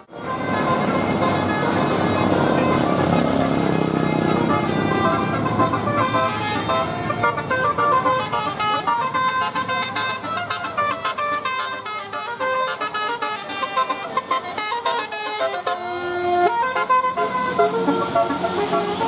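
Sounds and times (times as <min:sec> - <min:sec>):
bus engine rumble: 0:00.0 - 0:19.0
multi-tone bus horn tune: 0:00.0 - 0:19.0.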